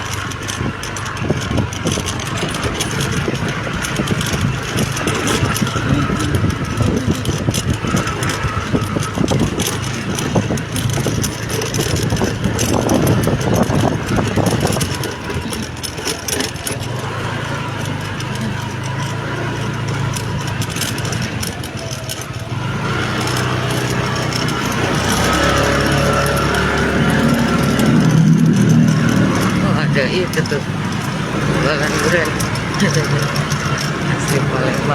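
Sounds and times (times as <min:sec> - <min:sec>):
road traffic noise: 0:00.0 - 0:34.9
vehicle engine running: 0:00.0 - 0:34.9.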